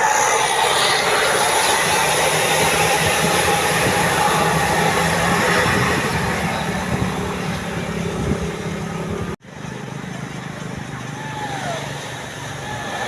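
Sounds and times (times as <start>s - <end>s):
bus engine running: 0.0s - 13.0s
road traffic noise: 0.0s - 13.0s.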